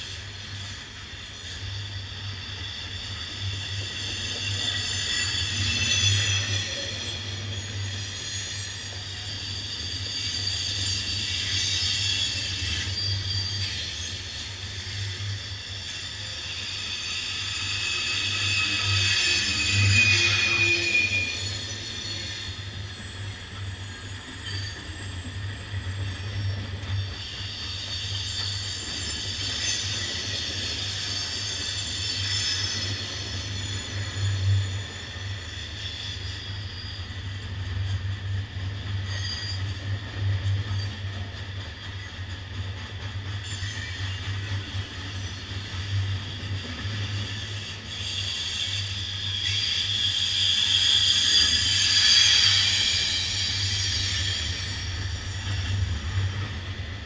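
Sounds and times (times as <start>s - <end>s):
high-pitched wheel squeals: 0.1s - 57.0s.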